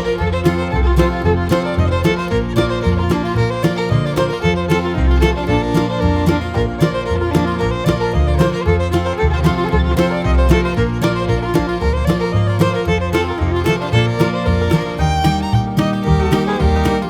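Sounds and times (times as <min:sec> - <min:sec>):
instrumental bluegrass music: 0:00.0 - 0:17.0.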